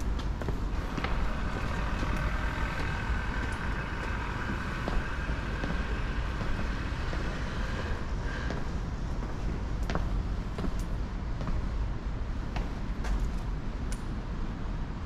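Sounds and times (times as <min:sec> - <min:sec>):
footsteps going down stairs: 0:00.0 - 0:13.5
steady low rumble: 0:00.0 - 0:15.0.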